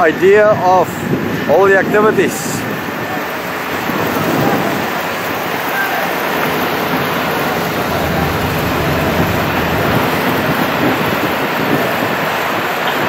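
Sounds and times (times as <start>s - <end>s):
wind blowing across microphone: 0.0s - 5.6s, 6.3s - 13.0s.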